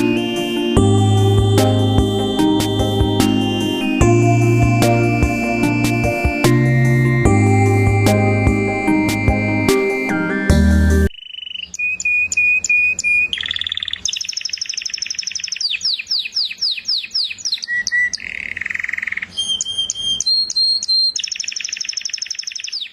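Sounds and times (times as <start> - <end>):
songbird singing: 0.0 - 22.9.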